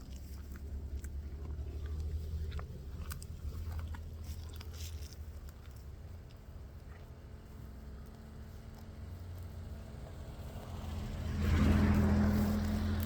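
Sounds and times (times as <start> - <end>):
bull chewing grass: 0.0 - 13.0.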